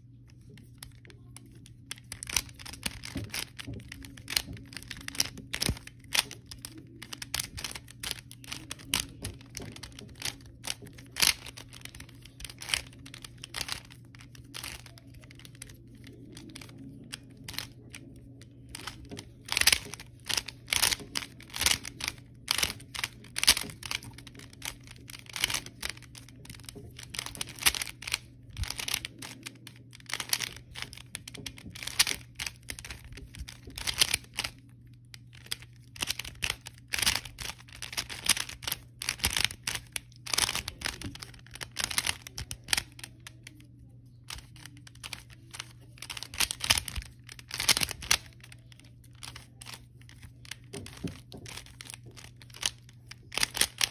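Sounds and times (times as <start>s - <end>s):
puzzle cube clicking as turned: 0.6s - 18.1s, 18.7s - 34.7s, 35.3s - 43.6s, 44.3s - 53.9s.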